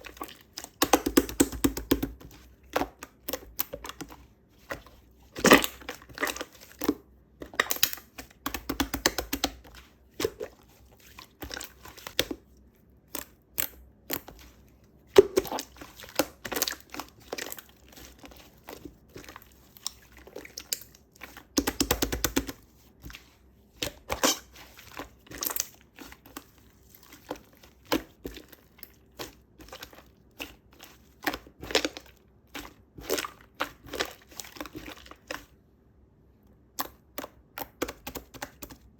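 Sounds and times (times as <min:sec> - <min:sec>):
slime squelching and crackling: 0:00.0 - 0:35.6.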